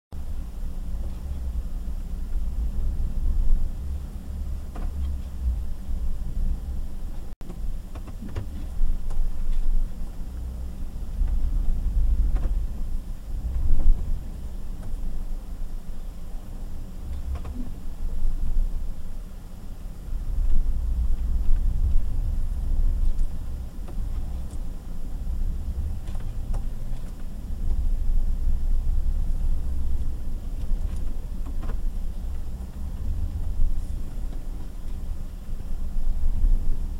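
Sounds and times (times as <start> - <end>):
vehicle engine running: 0.2 - 36.9
drivetrain clunks: 0.9 - 15.3, 16.6 - 18.6, 20.3 - 35.6.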